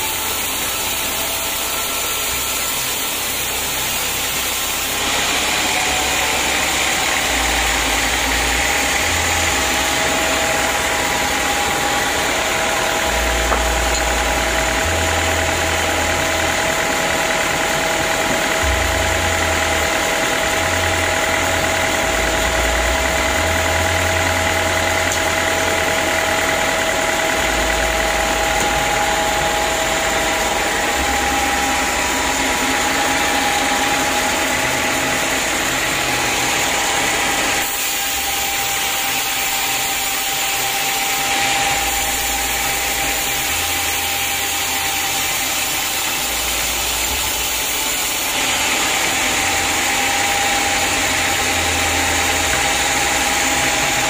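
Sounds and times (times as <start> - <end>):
band sawmill running: 0.0 - 54.0.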